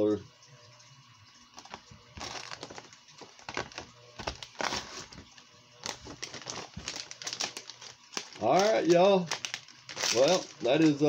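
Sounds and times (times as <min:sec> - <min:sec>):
plastic packaging crinkling: 0:01.5 - 0:11.0.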